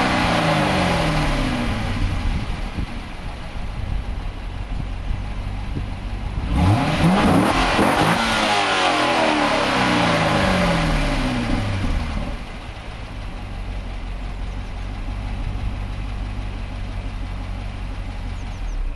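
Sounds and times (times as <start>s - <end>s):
car engine idling and revving: 0.0s - 18.9s.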